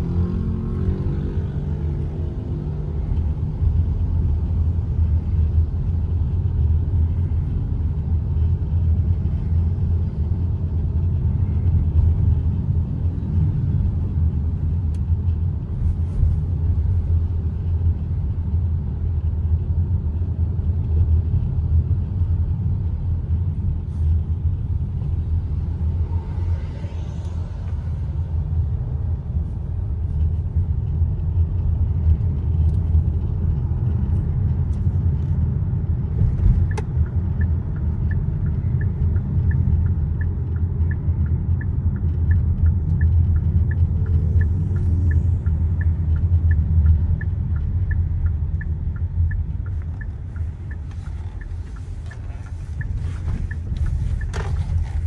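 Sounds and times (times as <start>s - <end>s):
road and tyre noise in car: 0.0s - 55.0s
turn signal ticking: 2.0s - 26.6s, 27.2s - 55.0s.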